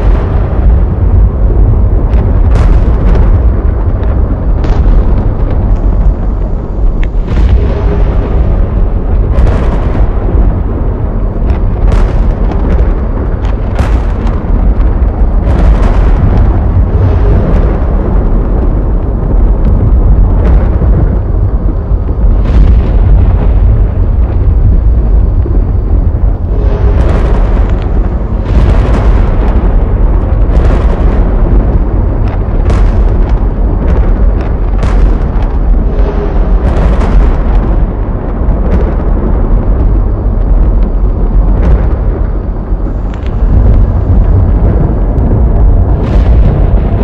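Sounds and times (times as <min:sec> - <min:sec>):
lightning cracks: 0:00.0 - 0:47.0
thunder rumbling: 0:00.0 - 0:47.0.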